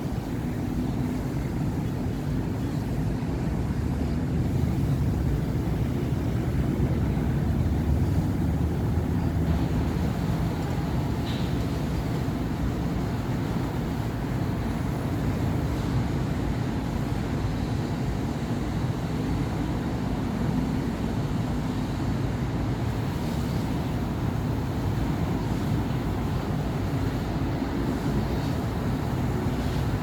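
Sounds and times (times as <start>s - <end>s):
city street traffic rumble: 0.0s - 30.0s.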